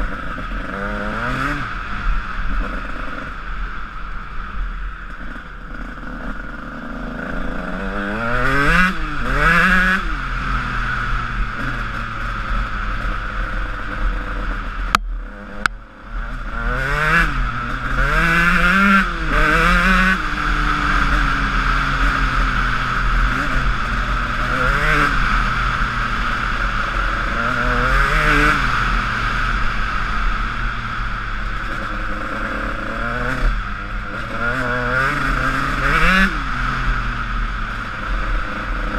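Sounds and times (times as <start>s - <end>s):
motocross engine revving: 0.0s - 1.8s, 5.3s - 38.9s.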